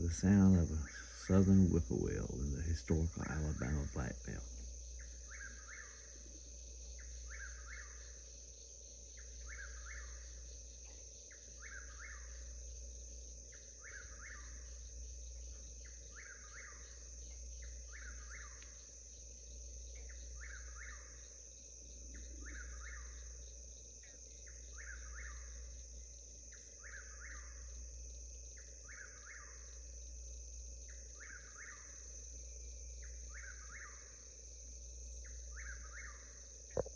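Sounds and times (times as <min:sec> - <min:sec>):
crickets droning: 0:00.0 - 0:36.9.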